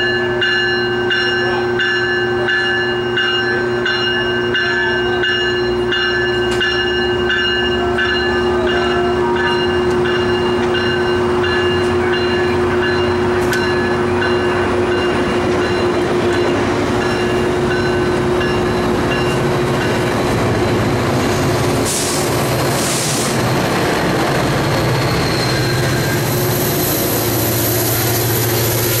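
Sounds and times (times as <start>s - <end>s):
crossing bell ringing: 0.0s - 22.7s, 23.9s - 29.0s
train coaches rolling past: 0.0s - 29.0s.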